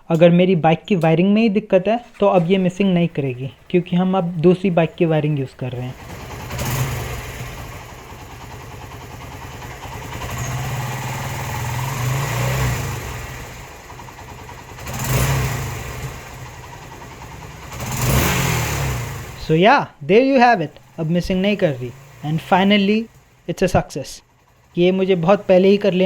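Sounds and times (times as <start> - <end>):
motorcycle engine idling and revving: 2.0 - 26.0.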